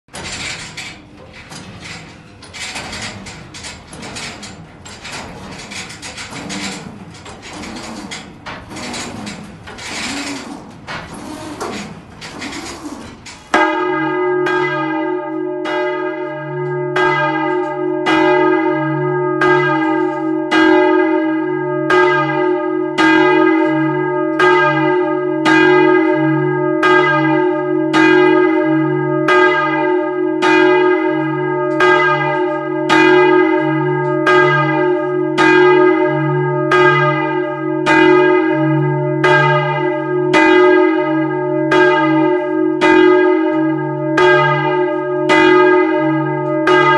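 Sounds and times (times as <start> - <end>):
church bell tolling: 0.1 - 46.9.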